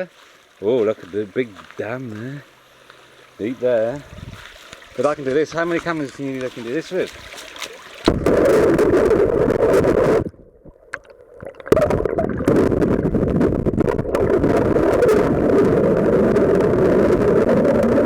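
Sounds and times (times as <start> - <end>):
muffled underwater stream gurgle: 3.1 - 18.0.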